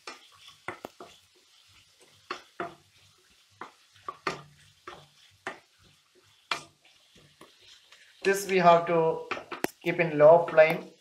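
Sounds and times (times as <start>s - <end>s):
onions frying in oil: 0.0s - 11.0s
wooden spatula scraping a pan: 0.0s - 11.0s.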